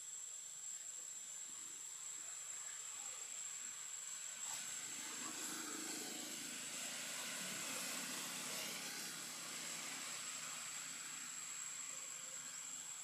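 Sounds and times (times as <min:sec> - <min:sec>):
constant high-pitched whine: 0:00.0 - 0:13.0
even hiss: 0:00.0 - 0:13.0.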